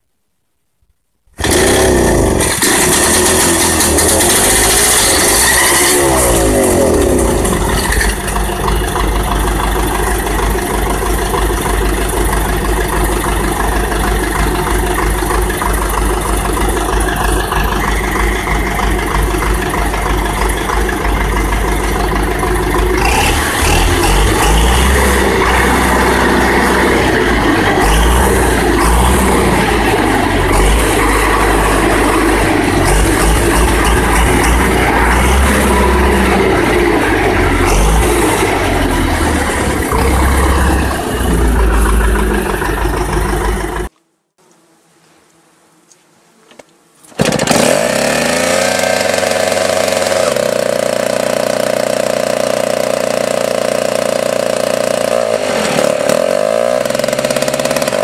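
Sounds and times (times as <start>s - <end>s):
two-stroke pony engine running: 1.4s - 43.9s, 47.2s - 58.0s.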